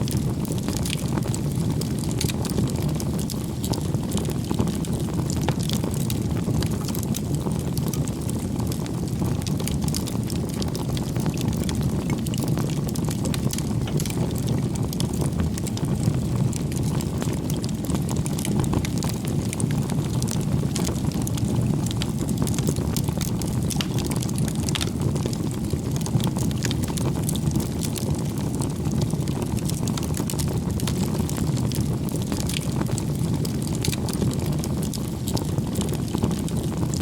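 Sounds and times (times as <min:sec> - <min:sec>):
firewood crackling and popping: 0:00.0 - 0:37.0
rush of campfire flame: 0:00.0 - 0:37.0.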